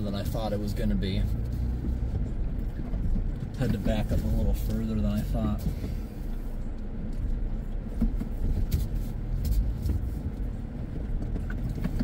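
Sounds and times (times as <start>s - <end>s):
engine and tyres rumbling: 0.0s - 12.0s
wheels knocking and crunching: 0.0s - 12.0s.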